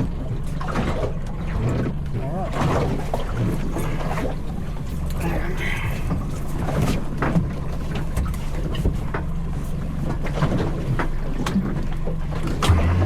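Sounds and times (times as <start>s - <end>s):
boat low rumble: 0.0s - 13.0s
water knocks and slaps: 0.0s - 13.0s.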